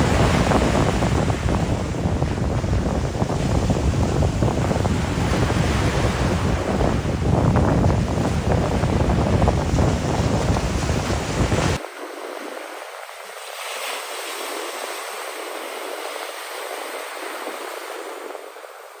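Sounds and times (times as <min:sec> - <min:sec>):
ocean surf hissing: 0:00.0 - 0:19.0
wind buffeting microphone: 0:00.0 - 0:19.0.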